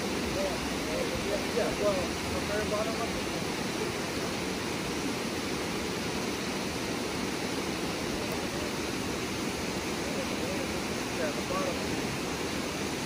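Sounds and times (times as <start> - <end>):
water cascading down channels: 0.0 - 13.0.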